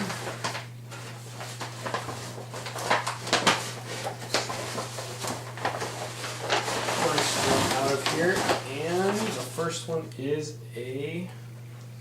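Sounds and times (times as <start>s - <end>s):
packing paper crumpling and rustling: 0.0s - 9.6s.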